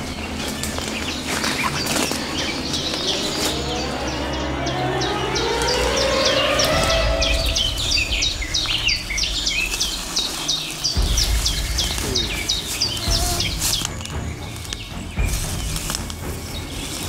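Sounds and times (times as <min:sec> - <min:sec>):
low rumble: 0:00.0 - 0:17.0
small bird chirping: 0:00.0 - 0:17.0.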